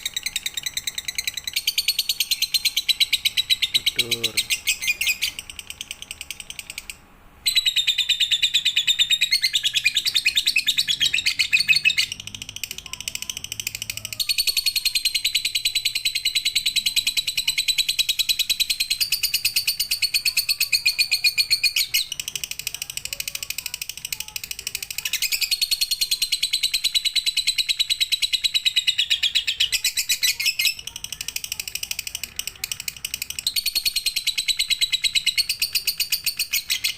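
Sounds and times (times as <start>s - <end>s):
bird chattering trills: 0.0s - 36.9s.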